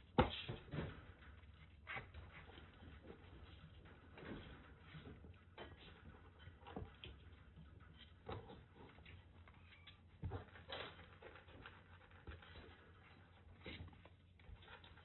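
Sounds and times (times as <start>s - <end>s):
kittens scuffling: 0.0s - 15.0s
paws tapping on floor mat: 0.0s - 15.0s.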